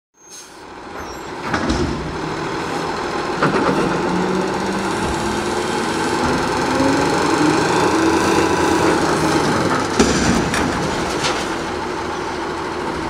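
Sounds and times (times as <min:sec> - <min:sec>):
diesel engine revving: 0:00.4 - 0:13.0
hydraulic arms lifting dumpster: 0:00.6 - 0:13.0.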